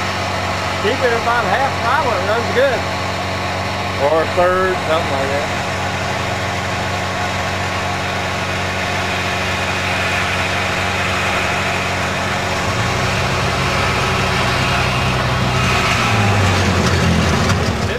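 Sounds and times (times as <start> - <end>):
snowmobile engine running: 0.0 - 17.9.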